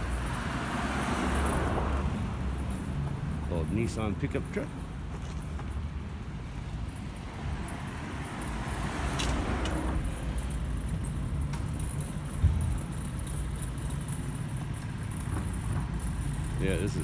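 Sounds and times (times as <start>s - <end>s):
car passing: 0.0s - 3.6s, 6.5s - 17.0s
traffic rumble: 0.0s - 17.0s.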